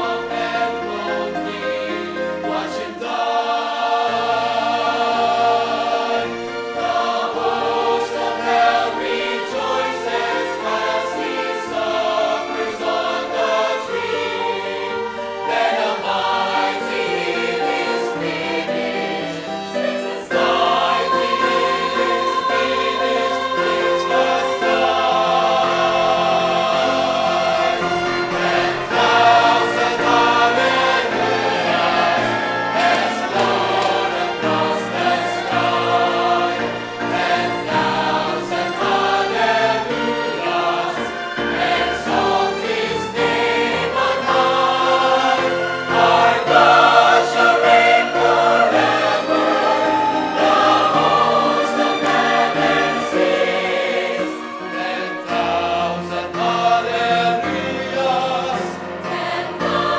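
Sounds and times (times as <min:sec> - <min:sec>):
choir singing sustained notes: 0:00.0 - 0:59.9.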